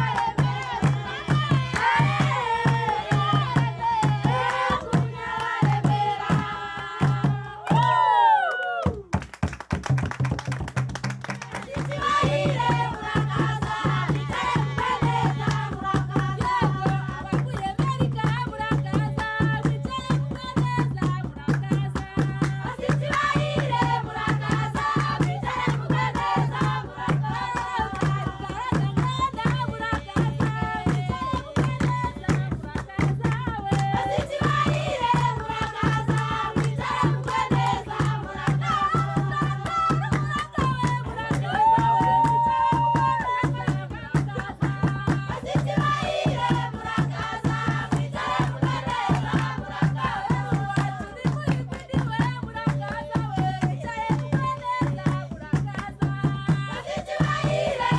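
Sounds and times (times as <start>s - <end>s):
group singing: 0.0s - 8.8s, 11.4s - 57.9s
rattles and percussion: 9.1s - 57.9s.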